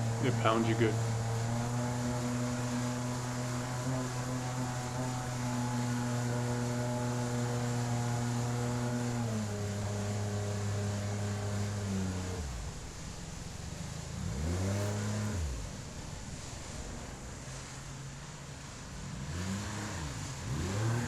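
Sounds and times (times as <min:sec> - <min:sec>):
jet boat motor running: 0:00.0 - 0:21.0.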